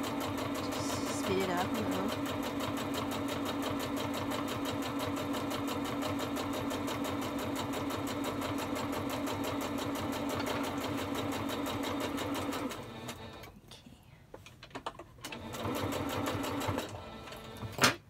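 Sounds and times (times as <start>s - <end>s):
sewing machine motor hum: 0.0s - 13.5s, 15.2s - 18.0s.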